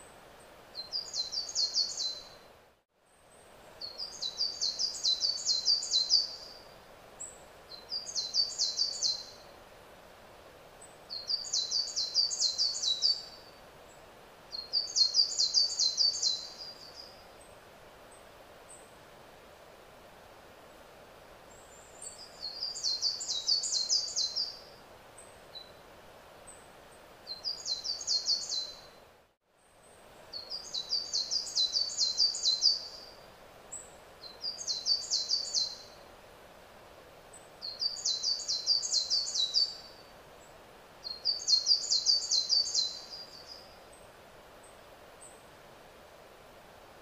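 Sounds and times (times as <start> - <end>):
songbird singing: 0.0 - 2.5, 3.1 - 9.6, 10.8 - 19.0, 21.4 - 25.8, 26.4 - 36.1, 37.2 - 45.5
outdoor background hiss: 0.0 - 47.0.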